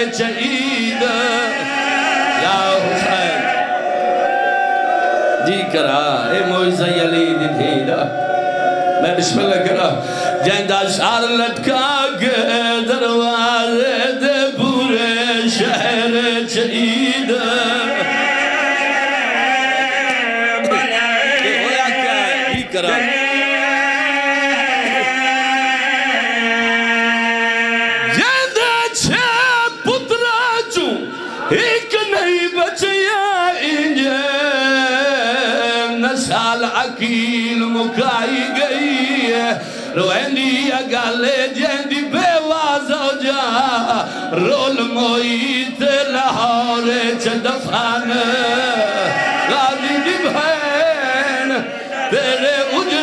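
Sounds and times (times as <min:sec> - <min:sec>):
men chanting a slow refrain: 0:00.0 - 0:30.2, 0:30.8 - 0:53.0.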